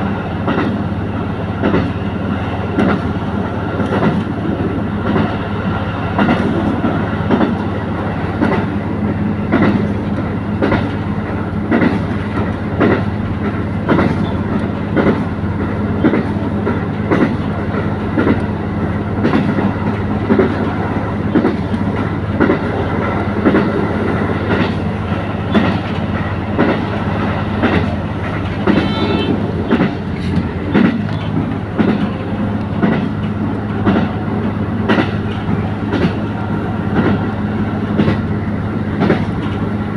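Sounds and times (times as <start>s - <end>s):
wheels clacking over rail joints: 0.0s - 0.8s, 1.6s - 2.1s, 2.7s - 5.4s, 6.1s - 8.9s, 9.5s - 37.3s, 37.9s - 38.3s, 38.9s - 39.7s
railcar engine hum: 0.0s - 39.9s.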